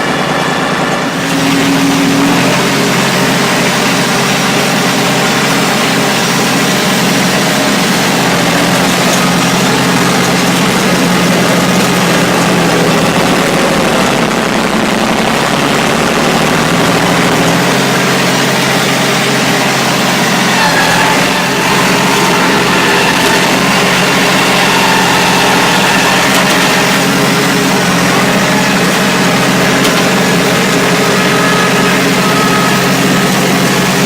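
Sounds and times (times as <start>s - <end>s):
bulldozer engine running: 0.0s - 34.0s.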